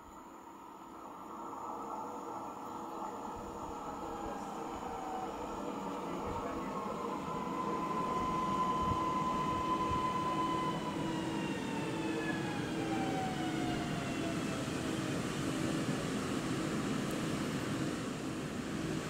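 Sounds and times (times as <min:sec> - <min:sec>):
train traction motor whine: 0:00.0 - 0:19.0.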